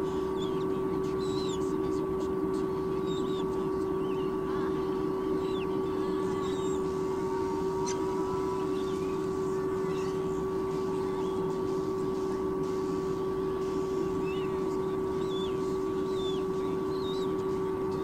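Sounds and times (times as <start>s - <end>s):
electrical hum: 0.0s - 18.0s
faint high chirps: 2.9s - 12.4s, 13.0s - 18.0s.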